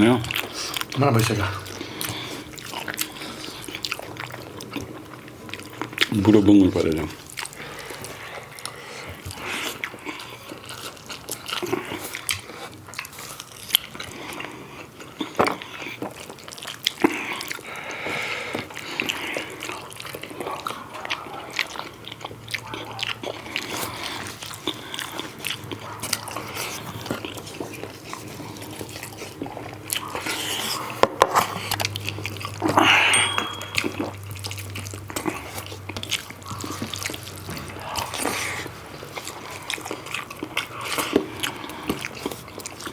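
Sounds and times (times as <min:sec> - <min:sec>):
people chewing food: 0:00.0 - 0:42.9.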